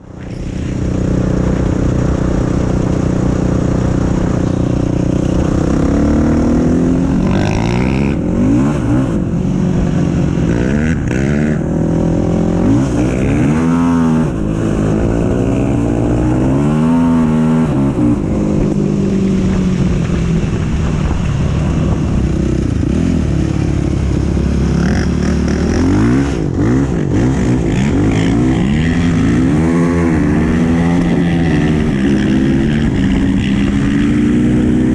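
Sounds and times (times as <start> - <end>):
quad engine revving: 0.0 - 34.9.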